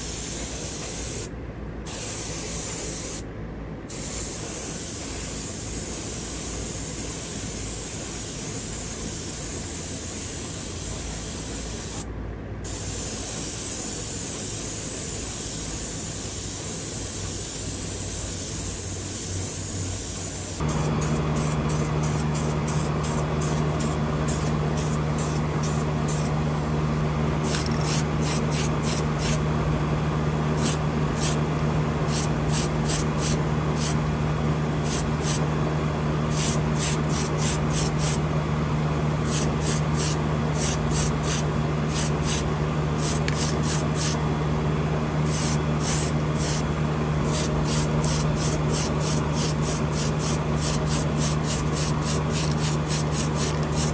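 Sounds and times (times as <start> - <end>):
airbrush spraying paint: 0.0 - 1.3, 1.9 - 3.3, 3.9 - 26.3, 27.4 - 29.4, 30.6 - 31.4, 32.0 - 34.0, 34.8 - 35.4, 36.3 - 38.2, 39.2 - 44.2, 45.2 - 53.9
steady low hum: 0.0 - 53.9.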